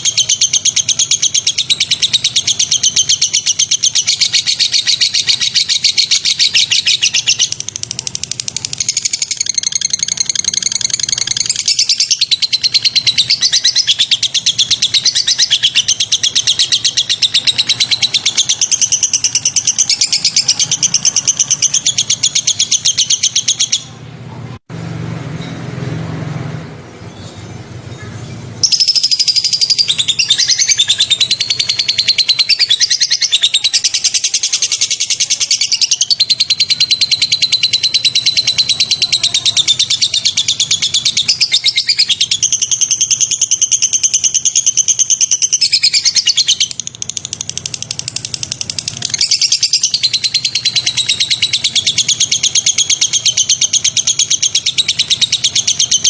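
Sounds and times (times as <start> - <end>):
bird singing sharp repeated notes: 0.0 - 24.1, 26.6 - 56.0.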